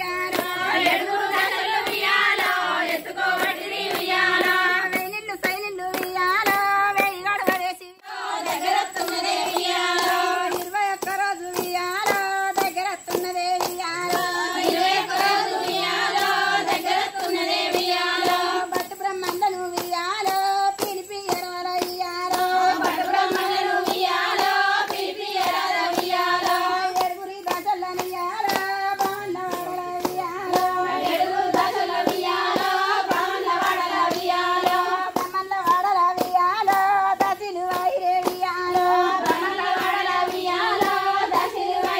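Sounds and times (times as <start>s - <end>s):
hands clapping in rhythm: 0.0s - 41.9s
women singing in chorus: 0.0s - 41.9s.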